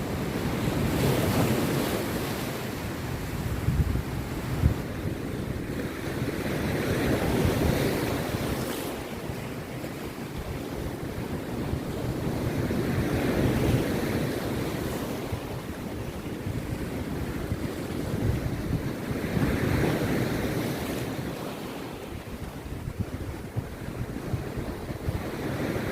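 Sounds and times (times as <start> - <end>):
sea surf breaking on beach: 0.0 - 25.9
wind buffeting microphone: 0.0 - 25.9.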